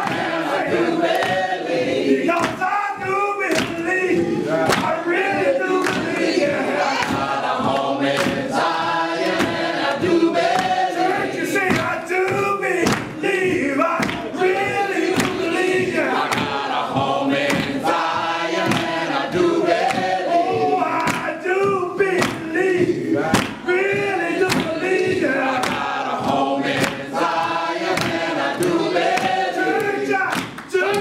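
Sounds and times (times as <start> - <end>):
congregation singing gospel: 0.0 - 31.0
rhythmic hand clapping: 0.0 - 31.0.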